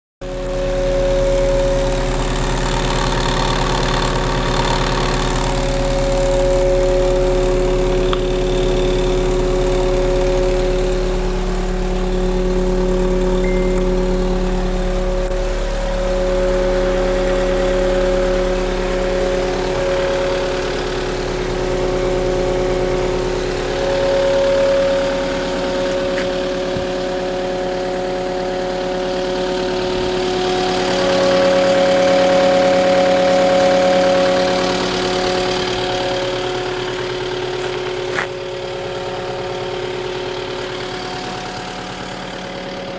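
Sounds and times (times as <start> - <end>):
engine running steadily: 0.2 - 42.9.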